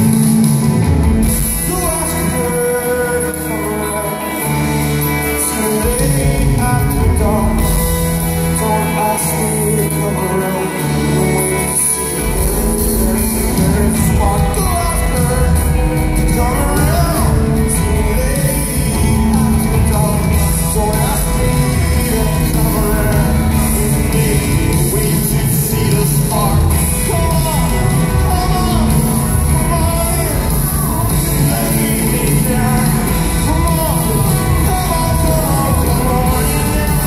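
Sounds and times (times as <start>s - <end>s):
lead vocals: 0.0s - 37.0s
live rock band: 0.0s - 37.0s.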